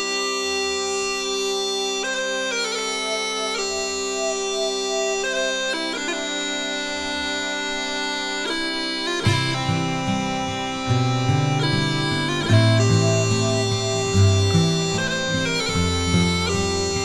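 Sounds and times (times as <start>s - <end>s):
bagpipe melody over drone: 0.0s - 17.0s.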